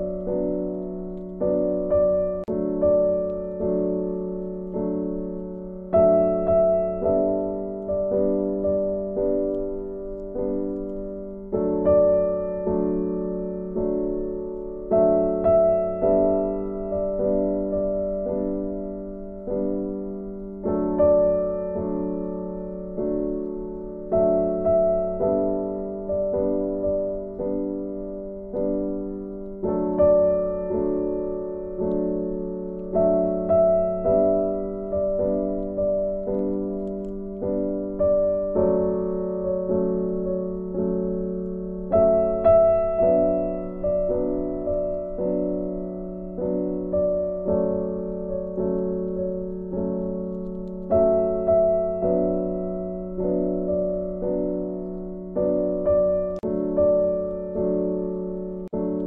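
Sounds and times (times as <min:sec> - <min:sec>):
gentle solo piano: 0:00.0 - 0:59.0.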